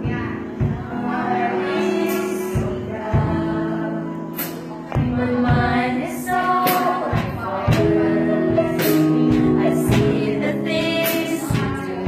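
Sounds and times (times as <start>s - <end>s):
group of people singing: 0.0s - 12.0s.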